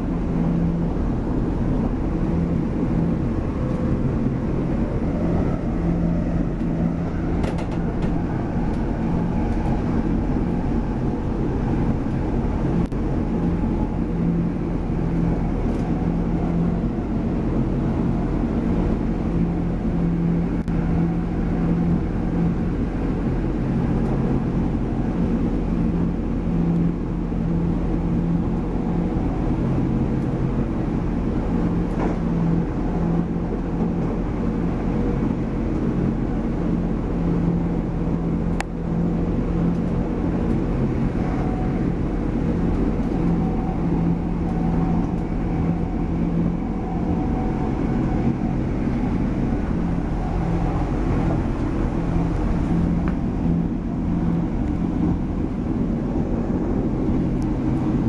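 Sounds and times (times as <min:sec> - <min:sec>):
rail noise: 0:00.0 - 0:58.0
train engine hum: 0:00.0 - 0:58.0.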